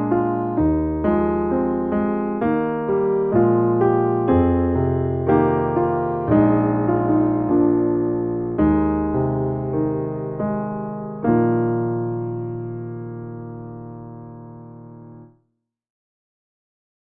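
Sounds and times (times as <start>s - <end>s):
piano playing slow chords: 0.0s - 15.3s.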